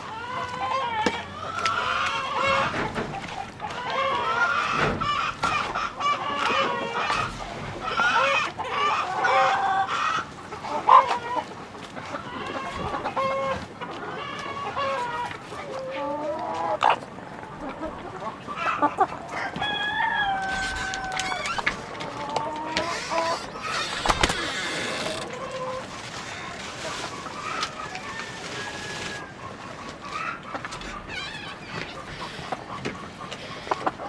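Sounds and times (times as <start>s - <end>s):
chickens clucking and calling: 0.0s - 34.0s.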